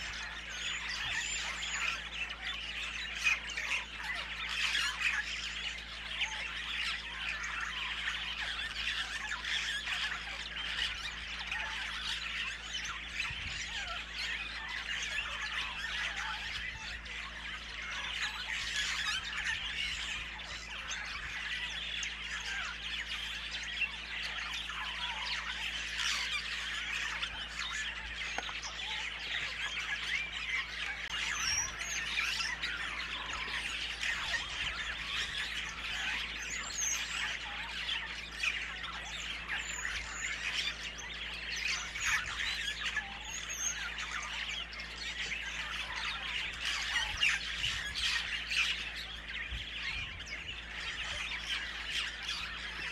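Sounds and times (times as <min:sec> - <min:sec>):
bird squawks: 0:00.0 - 0:52.9
birds chirping in chorus: 0:00.0 - 0:52.9.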